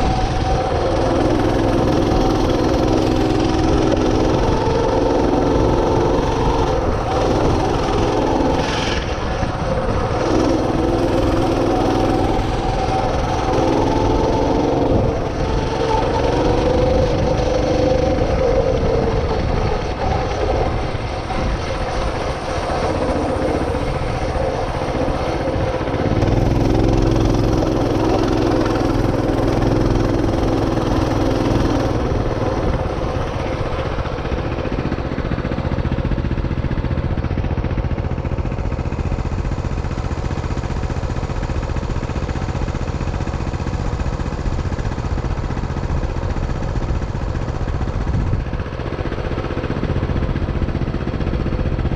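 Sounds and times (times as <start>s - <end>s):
motorcycle engine rumbling: 0.0s - 51.9s.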